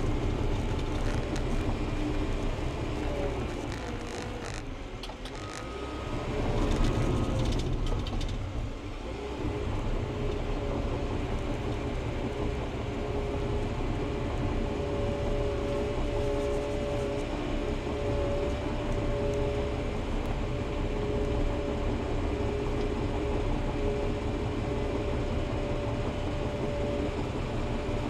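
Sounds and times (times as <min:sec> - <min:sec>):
bulldozer diesel engine whining: 0:00.0 - 0:28.0.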